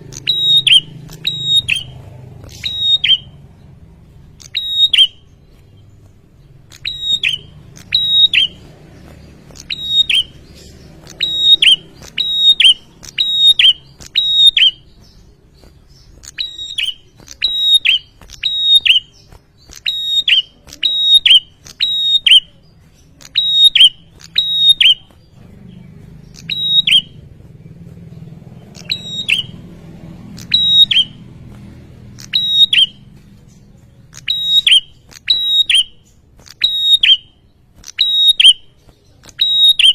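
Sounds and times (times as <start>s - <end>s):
bird calling sharp notes: 0.0s - 3.4s, 4.0s - 27.6s, 28.5s - 39.9s.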